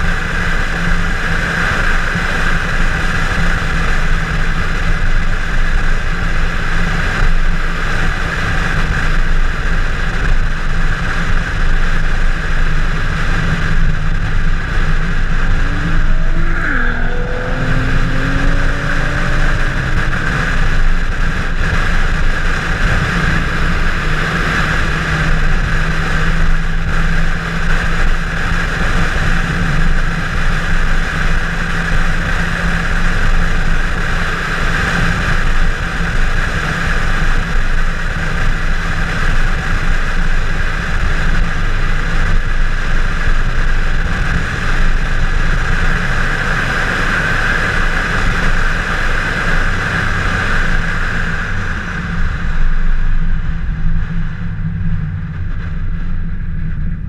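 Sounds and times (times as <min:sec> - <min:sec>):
car engine at speed: 0:00.0 - 0:57.0
road noise: 0:00.0 - 0:57.0.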